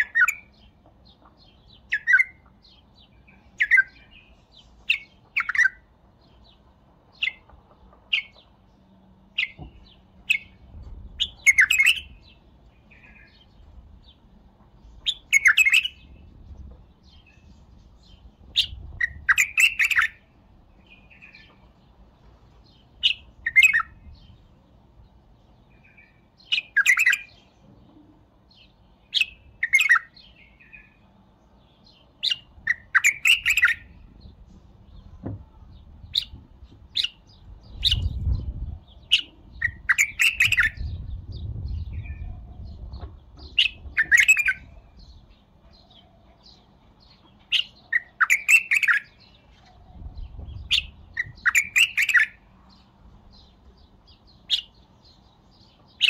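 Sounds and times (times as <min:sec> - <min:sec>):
bulbul singing warbled phrases: 0:00.0 - 0:07.5, 0:08.1 - 0:14.3, 0:15.0 - 0:21.6, 0:22.7 - 0:24.5, 0:25.1 - 0:56.0.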